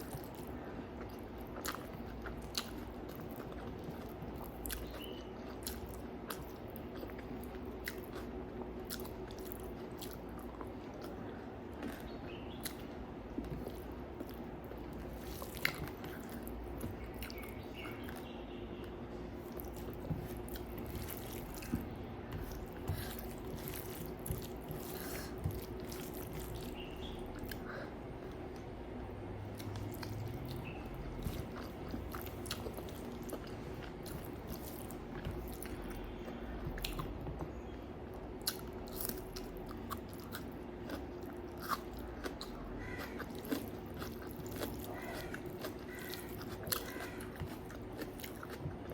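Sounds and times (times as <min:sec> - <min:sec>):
person chewing and biting food: 0:00.0 - 0:18.3, 0:19.4 - 0:28.6, 0:29.4 - 0:48.9
steady low hum: 0:00.0 - 0:48.9.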